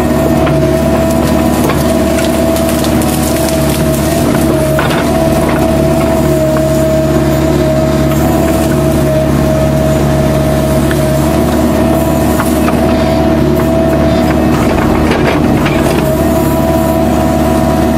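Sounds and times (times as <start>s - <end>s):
mini excavator engine running: 0.0s - 17.9s.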